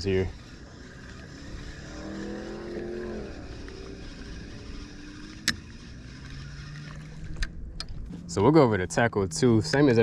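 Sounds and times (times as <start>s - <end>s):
distant engine passing: 0.0s - 8.4s.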